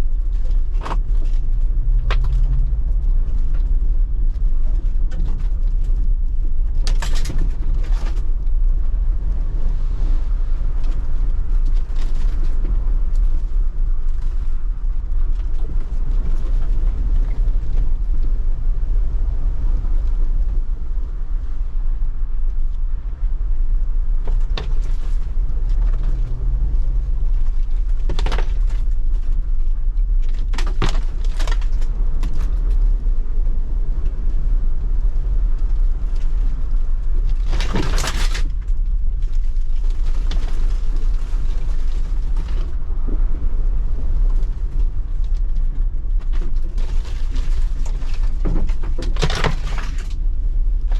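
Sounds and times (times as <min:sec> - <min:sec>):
engine deep rumble: 0:00.0 - 0:50.9.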